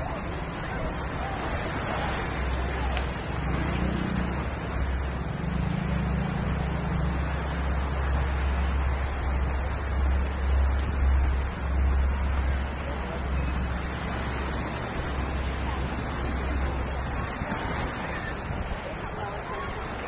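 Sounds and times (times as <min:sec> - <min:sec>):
waves breaking on rocks: 0:00.0 - 0:20.0.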